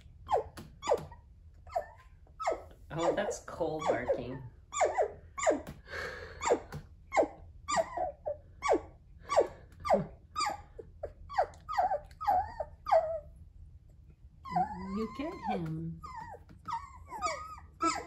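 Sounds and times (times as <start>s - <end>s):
puppy yipping: 0.2s - 13.3s, 14.4s - 18.0s.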